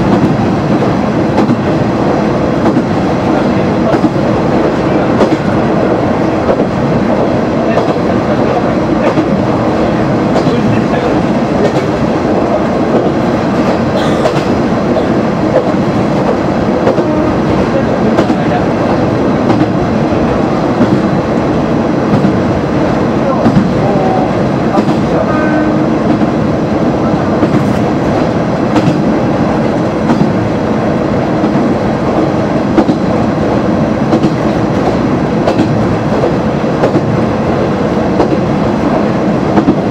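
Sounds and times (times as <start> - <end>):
diesel railcar engine running: 0.0 - 39.9.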